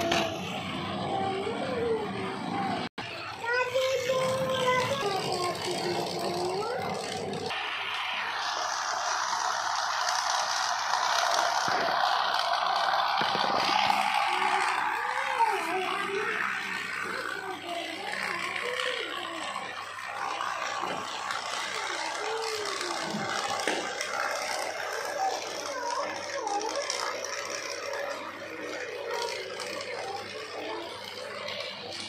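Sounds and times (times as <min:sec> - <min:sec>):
toy train motor whirring: 0:00.0 - 0:32.0
toy train wheels clattering: 0:03.1 - 0:07.5, 0:08.5 - 0:32.0.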